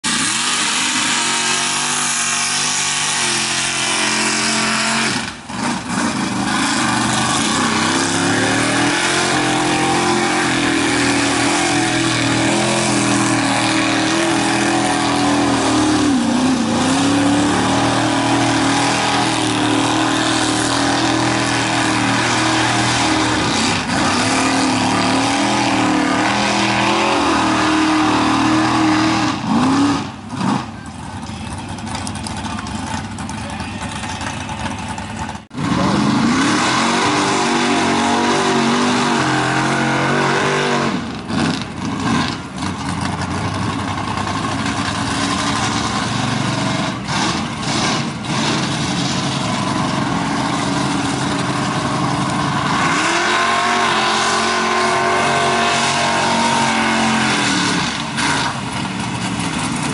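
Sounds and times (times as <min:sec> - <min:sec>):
truck engine running hard: 0:00.0 - 0:59.9.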